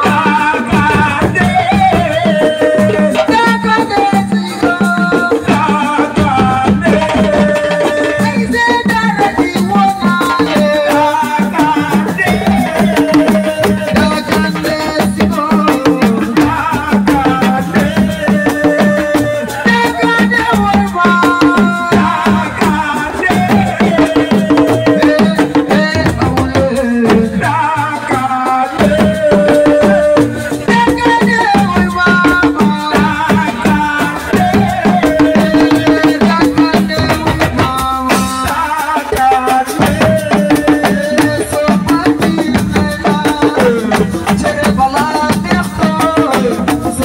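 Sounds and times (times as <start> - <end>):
hand drums and rattles: 0.0 - 47.0
melody over percussion: 0.0 - 47.0.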